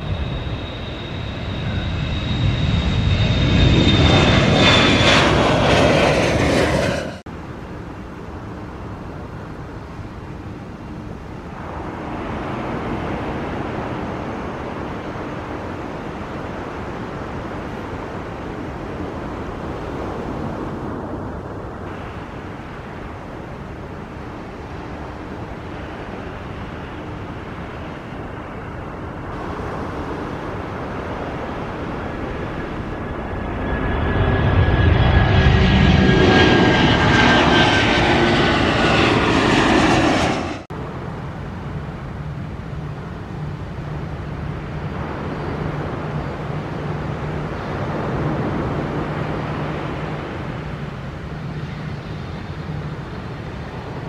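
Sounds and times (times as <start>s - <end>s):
distant airliner engine noise: 0.0s - 54.0s
jet engine whine on takeoff: 0.0s - 54.0s.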